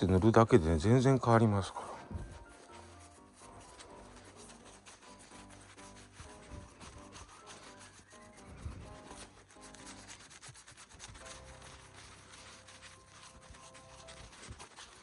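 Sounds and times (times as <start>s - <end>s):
soft background music: 0.0s - 15.0s
rubbing strokes on leather: 1.9s - 15.0s.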